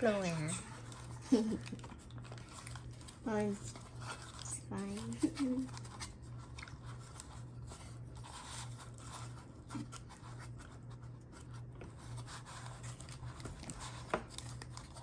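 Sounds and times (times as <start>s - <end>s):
paper liners crinkling: 0.0s - 15.0s.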